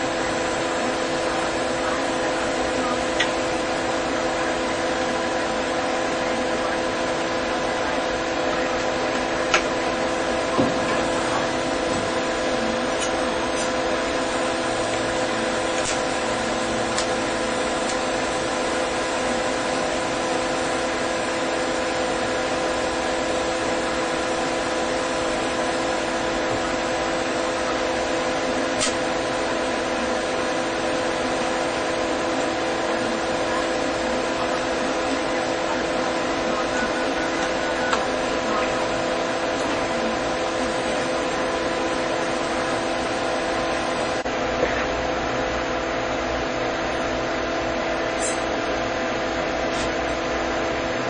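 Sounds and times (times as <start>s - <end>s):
welding arc hum and hiss: 0.0s - 51.0s.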